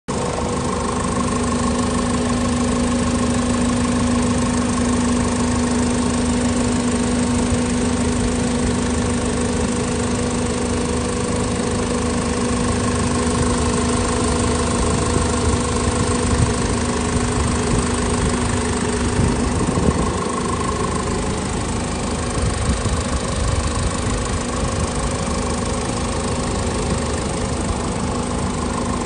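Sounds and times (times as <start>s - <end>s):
diesel engine idling: 0.1s - 29.0s.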